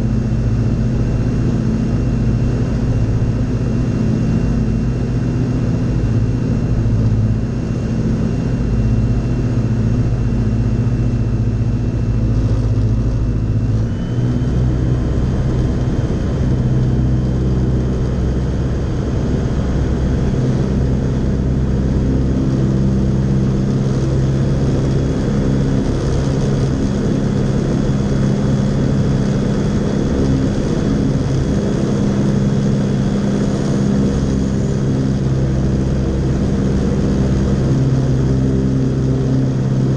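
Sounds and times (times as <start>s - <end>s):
ultralight aircraft engine droning: 0.0s - 39.9s.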